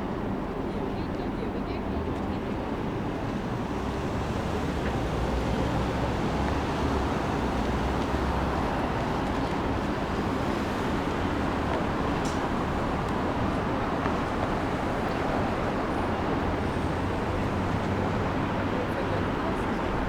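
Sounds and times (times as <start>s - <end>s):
busy transit station ambience: 0.0s - 20.0s
rumbling vehicle noise: 2.2s - 20.0s.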